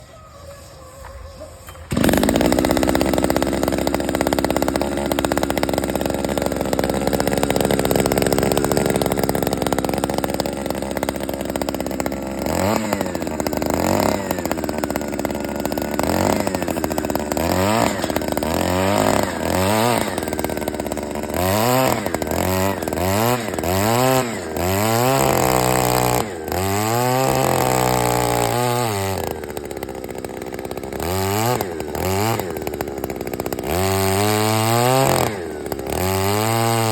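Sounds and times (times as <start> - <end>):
two-stroke auger engine revving: 1.6 - 36.9.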